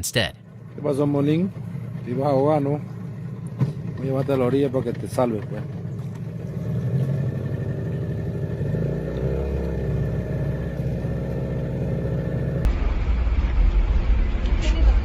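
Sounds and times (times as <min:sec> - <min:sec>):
boat motor running: 0:00.4 - 0:12.8.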